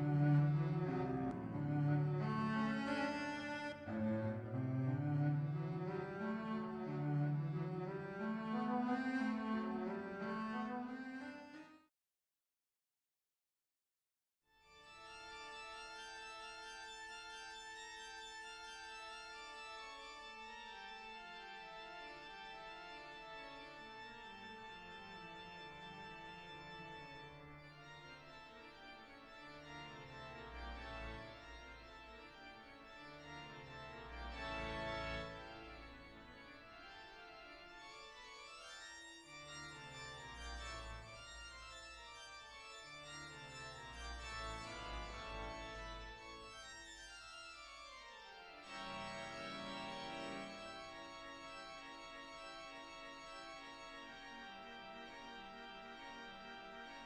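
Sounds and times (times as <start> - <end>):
organ-like keyboard chords: 0.0 - 11.2, 19.4 - 38.3, 39.3 - 47.0, 48.1 - 57.0.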